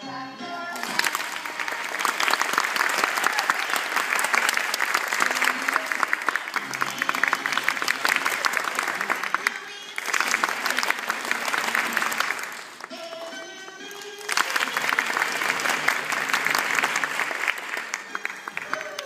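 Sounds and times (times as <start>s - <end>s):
crowd applauding: 0.8s - 19.0s.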